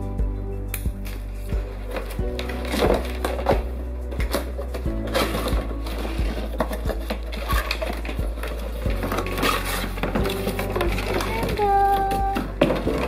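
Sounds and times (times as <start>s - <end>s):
background music: 0.0s - 13.0s
cardboard box rustling: 1.6s - 13.0s.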